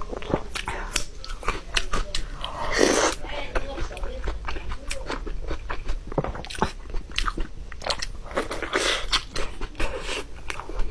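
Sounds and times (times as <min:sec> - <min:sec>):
close chewing: 0:00.0 - 0:10.9.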